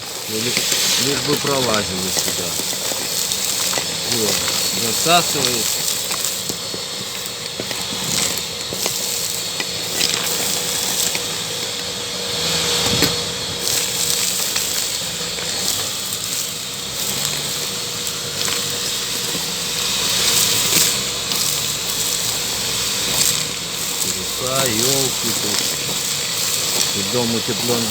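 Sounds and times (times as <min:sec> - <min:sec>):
stones rattling up hose: 0:00.0 - 0:27.9
vacuum motor whine: 0:00.0 - 0:27.9.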